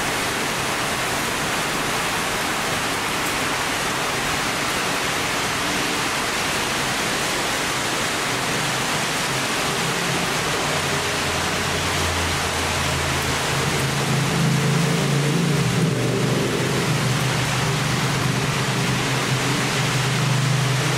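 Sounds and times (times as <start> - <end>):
wind and rain on microphone: 0.0 - 20.9.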